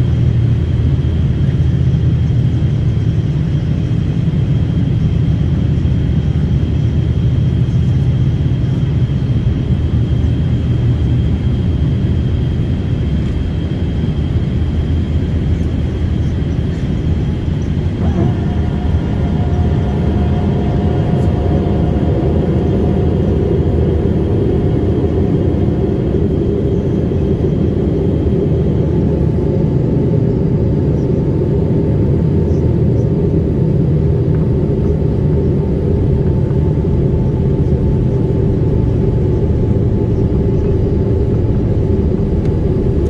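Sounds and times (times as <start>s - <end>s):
airliner cabin engine rumble: 0.0s - 43.0s
faint whine: 0.0s - 43.0s.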